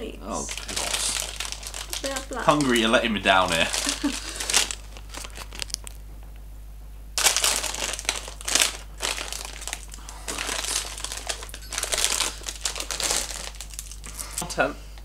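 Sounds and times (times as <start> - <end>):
plastic sweet packet rustling: 0.5 - 6.0, 7.2 - 14.4.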